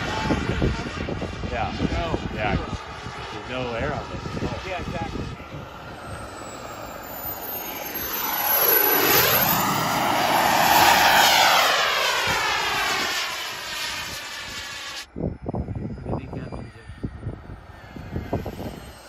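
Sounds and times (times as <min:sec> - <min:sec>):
jet turbine roar and whine passing: 0:00.0 - 0:19.0.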